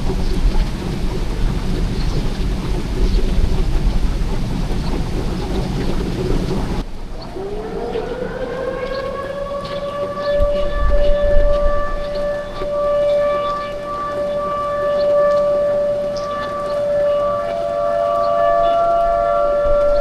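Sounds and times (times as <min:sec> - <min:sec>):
rain: 0:00.0 - 0:20.0
thunder: 0:00.0 - 0:20.0
tornado siren winding up: 0:00.0 - 0:20.0.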